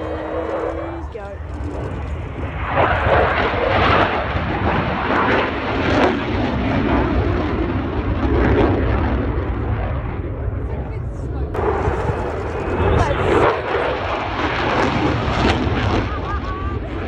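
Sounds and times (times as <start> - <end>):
loud jet engine noise: 0.0 - 17.0.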